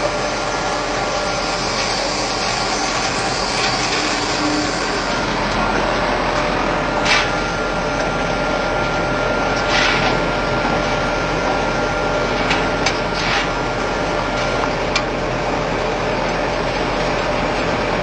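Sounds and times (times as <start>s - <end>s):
mill motor running with whine: 0.0s - 18.0s.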